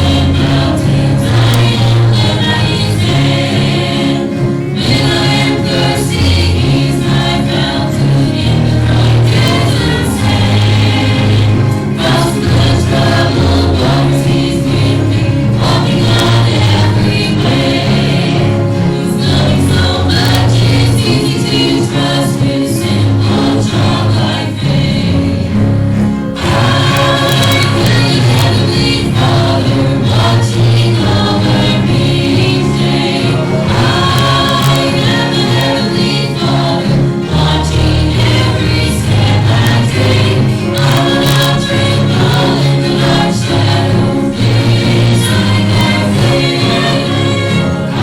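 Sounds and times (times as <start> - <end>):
congregation singing a hymn: 0.0 - 48.0
instrumental accompaniment with bass: 0.0 - 48.0.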